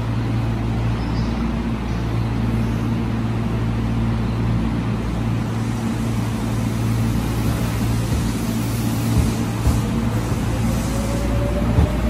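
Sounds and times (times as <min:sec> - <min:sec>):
electric train moving slowly: 0:00.0 - 0:12.0.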